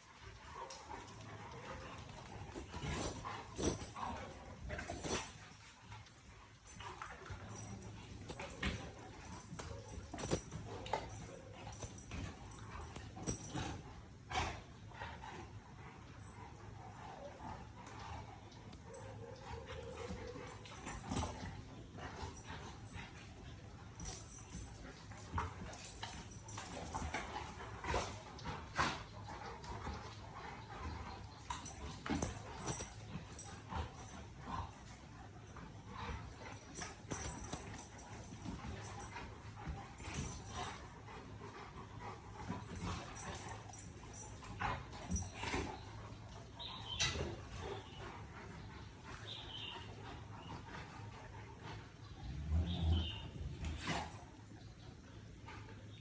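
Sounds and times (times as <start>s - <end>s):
dogs moving about: 0.0s - 52.0s, 53.5s - 54.6s.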